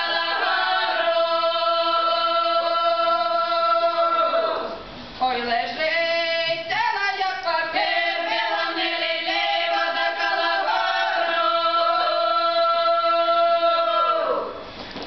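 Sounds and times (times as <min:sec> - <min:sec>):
women singing folk song: 0:00.0 - 0:14.6.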